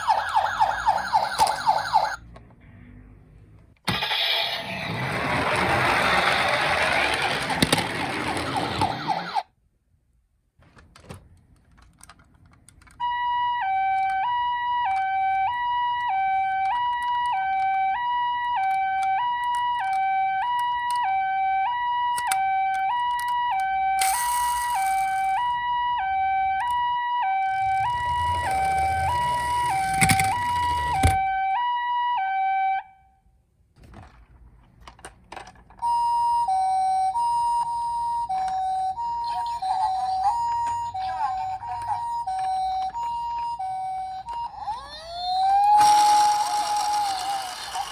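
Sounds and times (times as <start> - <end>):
toy ambulance two-tone siren: 0.0 - 2.3, 3.9 - 9.5, 13.0 - 33.2, 35.8 - 47.9.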